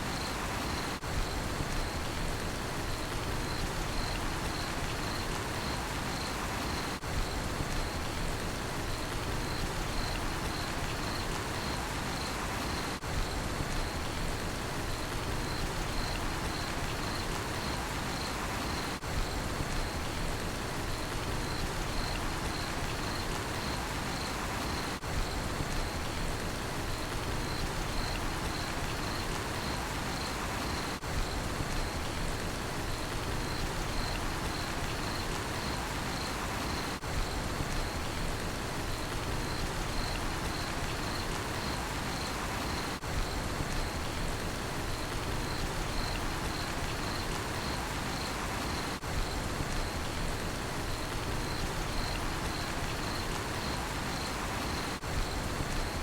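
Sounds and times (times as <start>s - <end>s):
cricket chirping: 0.0s - 2.2s, 2.8s - 8.2s, 8.8s - 14.2s, 14.8s - 20.2s, 20.9s - 26.2s, 26.9s - 38.2s, 38.8s - 56.0s
steady rain falling: 0.0s - 56.0s.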